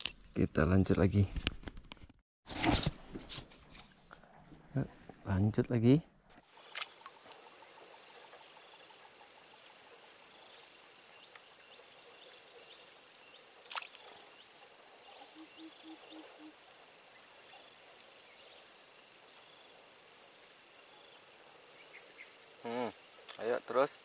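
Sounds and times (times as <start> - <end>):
high-pitched insect chorus: 4.3 - 24.0.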